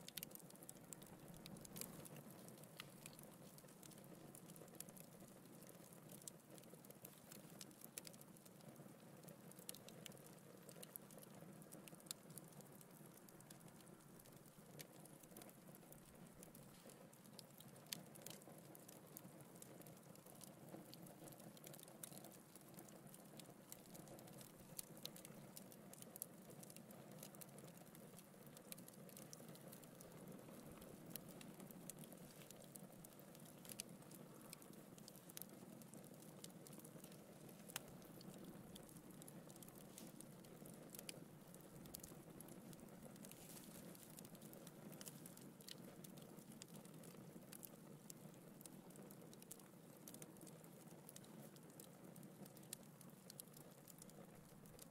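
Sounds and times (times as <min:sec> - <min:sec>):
logs crackling and popping: 0:00.0 - 0:54.9.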